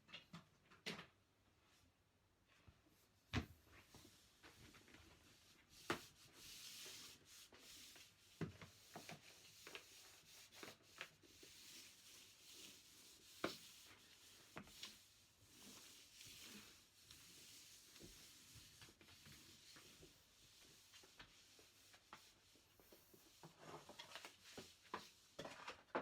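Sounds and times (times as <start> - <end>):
floor mop swishing over floor: 3.0 - 26.0.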